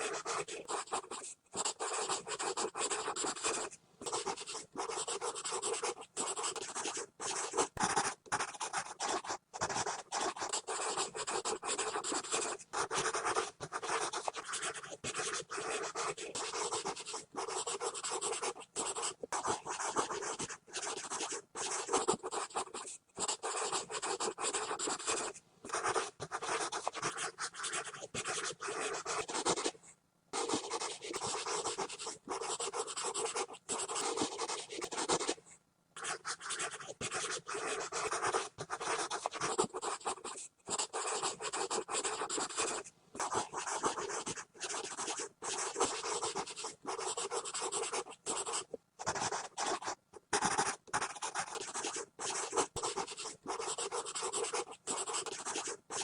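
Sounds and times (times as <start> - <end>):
pencil scribbling on paper: 0.0 - 29.8, 30.4 - 35.4, 36.0 - 56.0.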